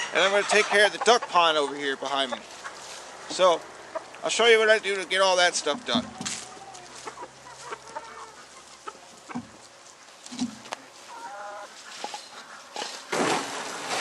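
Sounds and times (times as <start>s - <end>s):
chickens clucking: 0.0s - 13.1s.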